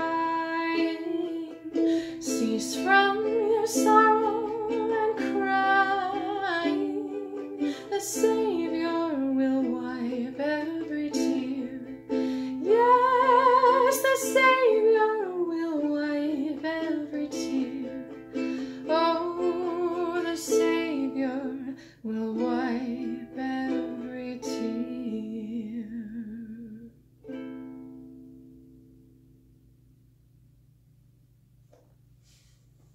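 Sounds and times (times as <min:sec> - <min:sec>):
woman singing with vibrato: 0:00.0 - 0:26.9
ukulele strumming: 0:00.0 - 0:29.6.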